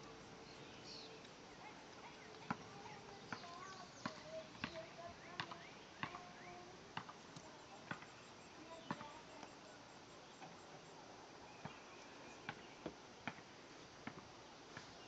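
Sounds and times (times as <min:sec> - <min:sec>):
crickets chirping: 0:00.0 - 0:14.7.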